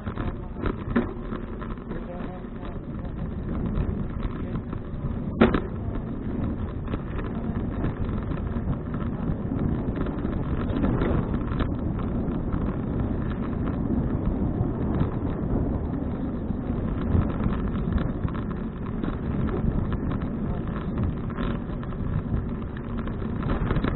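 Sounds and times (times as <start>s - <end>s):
low rumble: 0.0s - 23.9s
wind buffeting microphone: 0.0s - 23.9s.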